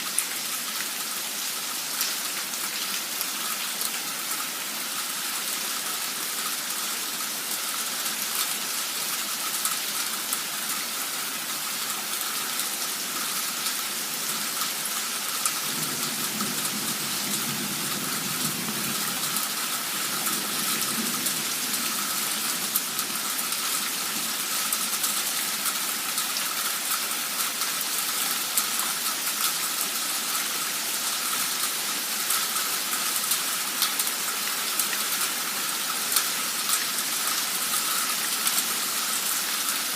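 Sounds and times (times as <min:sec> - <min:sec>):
torrential rain: 0:00.0 - 0:39.9.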